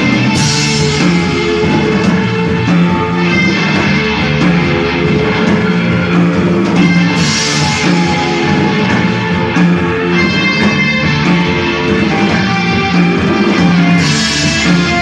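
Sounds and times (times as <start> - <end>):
cymbals: 0.0 - 15.0
rock band playing: 0.0 - 15.0.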